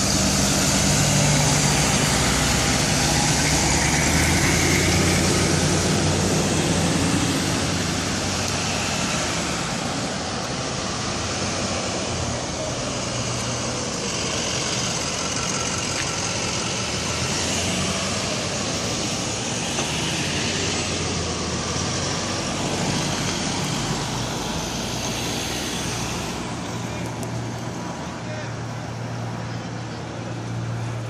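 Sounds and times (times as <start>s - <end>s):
tyres on the road: 0.0s - 31.0s
vehicle engines running: 0.0s - 31.0s.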